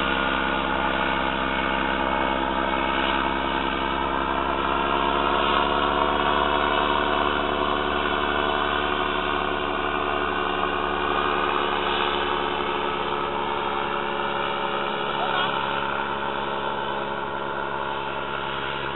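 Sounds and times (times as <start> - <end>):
paramotor engine droning: 0.0 - 18.9.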